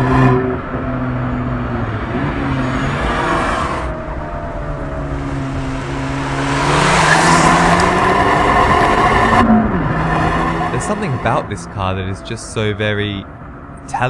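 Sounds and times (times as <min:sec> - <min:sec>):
car engine running: 0:00.0 - 0:14.0
road and wind noise: 0:00.0 - 0:14.0.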